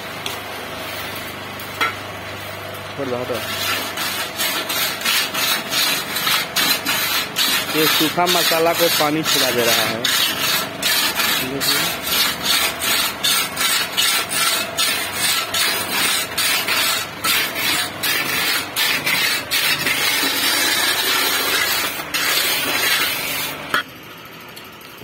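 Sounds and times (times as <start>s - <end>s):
trowel scraping wet concrete: 3.1s - 23.9s.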